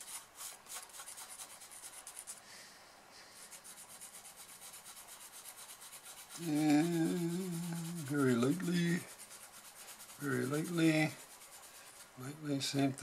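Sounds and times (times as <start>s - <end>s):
pencil scratching on paper: 0.0s - 2.4s, 3.4s - 12.7s.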